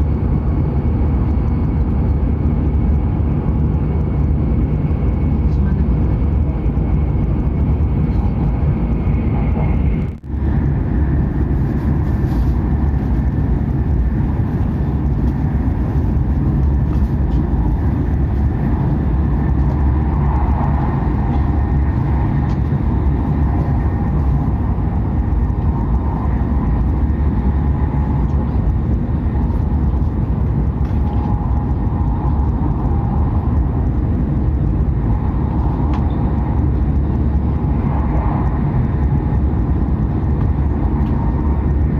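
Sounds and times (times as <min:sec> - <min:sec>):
high-speed train rumble: 0:00.0 - 0:41.9.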